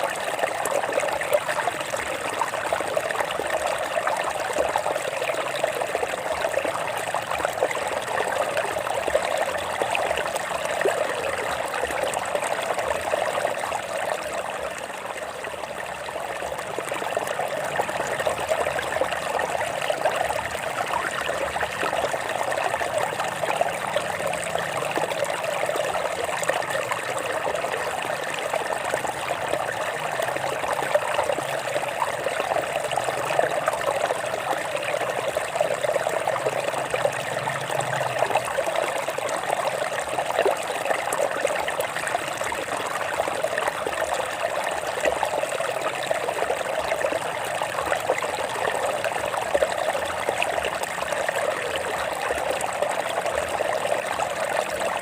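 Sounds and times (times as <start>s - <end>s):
stream water running over rocks: 0.0s - 55.0s.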